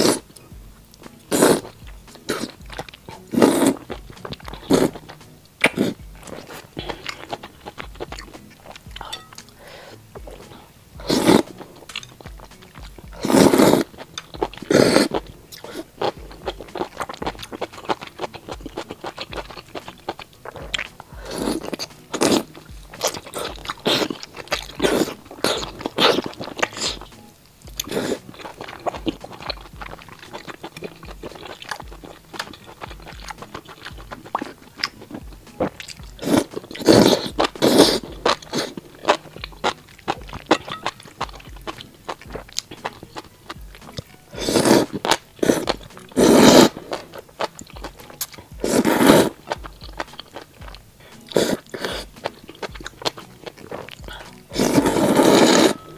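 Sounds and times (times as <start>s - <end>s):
person slurping noodles: 0.0s - 0.3s, 1.3s - 8.1s, 10.6s - 11.9s, 13.1s - 27.1s, 27.8s - 40.6s, 44.3s - 50.4s, 51.1s - 55.9s
wet chewing sounds: 0.0s - 55.9s.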